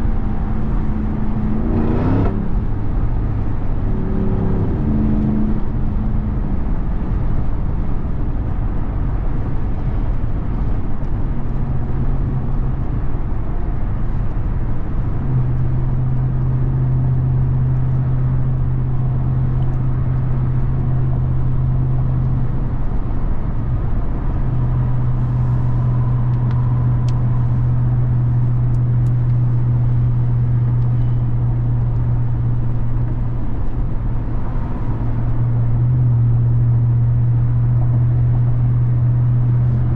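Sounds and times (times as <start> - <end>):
engine drone inside vehicle: 0.0 - 39.9
road noise: 0.0 - 39.9.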